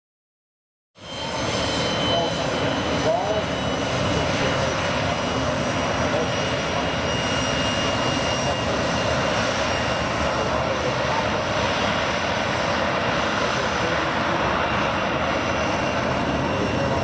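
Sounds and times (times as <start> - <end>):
aircraft engine: 1.0 - 17.0.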